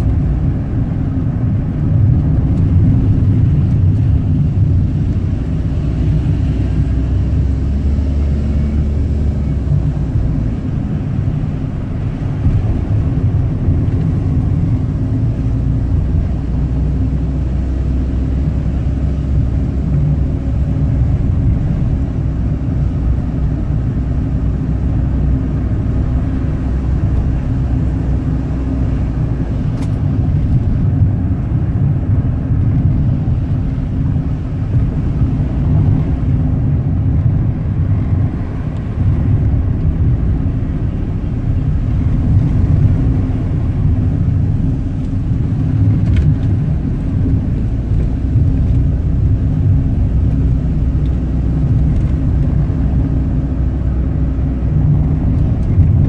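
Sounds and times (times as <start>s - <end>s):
car engine rumble: 0.0s - 56.0s
constant hum: 0.0s - 56.0s
road noise: 0.0s - 56.0s.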